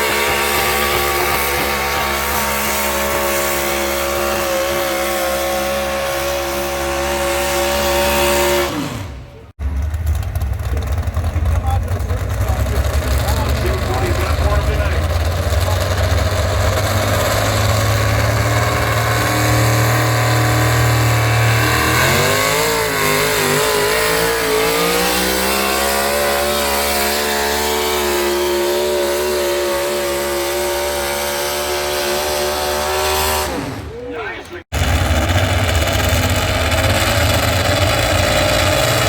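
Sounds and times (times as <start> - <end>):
tractor engine revving: 0.0 - 39.0.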